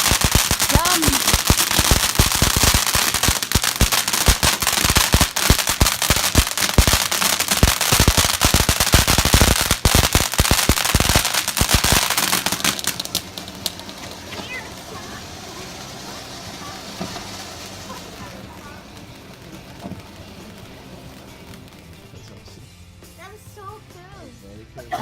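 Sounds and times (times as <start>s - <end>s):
firework cracks and bangs: 0.0s - 22.7s.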